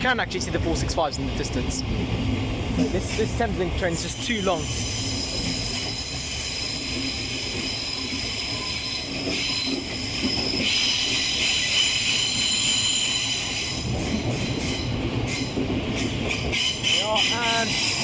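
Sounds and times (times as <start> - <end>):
train rumble: 0.0 - 18.0
train wheels squealing on rails: 2.4 - 18.0.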